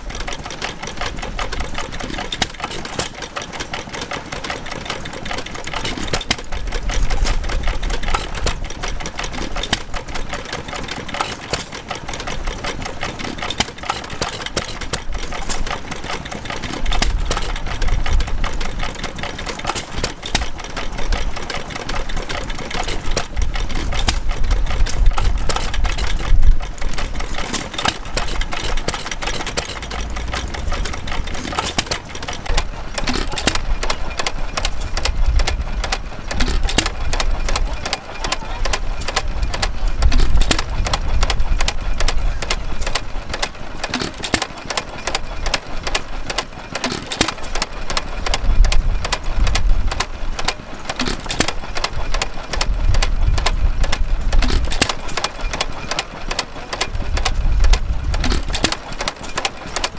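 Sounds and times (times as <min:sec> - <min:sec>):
stationary engines ticking and thumping: 0:00.0 - 0:59.9.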